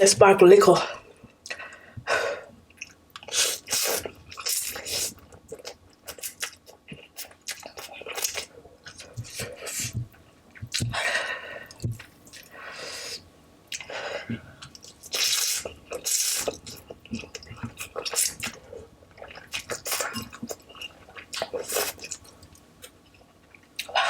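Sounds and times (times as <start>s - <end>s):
person chewing and slurping noodles: 2.7s - 11.0s, 11.6s - 22.9s.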